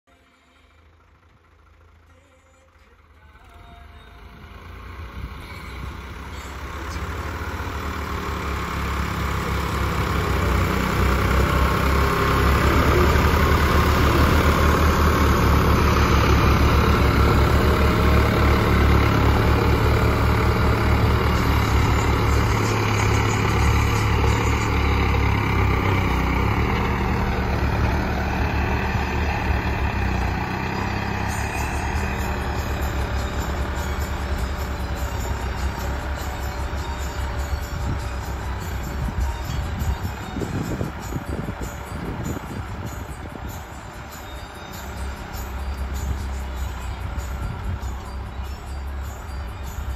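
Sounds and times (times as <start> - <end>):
diesel tractor engines rumbling: 0.0 - 49.9.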